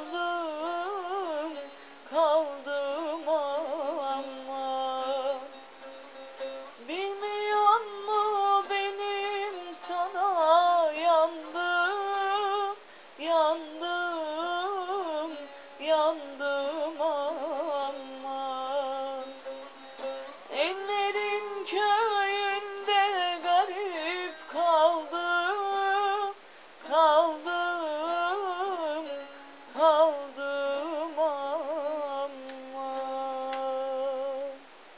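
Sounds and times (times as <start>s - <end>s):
woman singing wordless folk melody: 0.0s - 34.9s.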